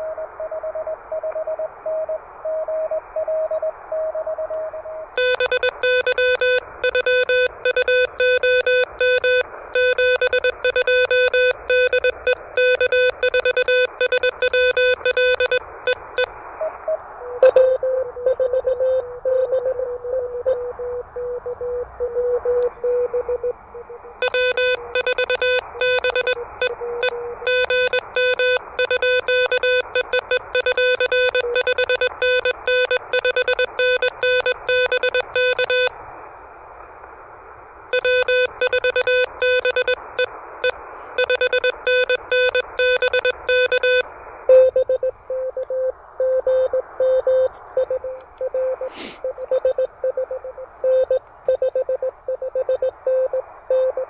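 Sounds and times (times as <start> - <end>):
wavering received morse signal: 0.0 - 35.9, 37.9 - 54.0
receiver hiss: 0.0 - 54.0
buzzy morse code sidetone: 5.2 - 35.9, 37.9 - 54.0.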